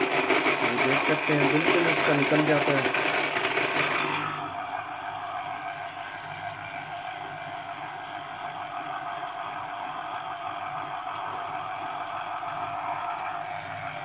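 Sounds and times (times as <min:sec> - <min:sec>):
electric citrus juicer whirring: 0:00.0 - 0:14.0.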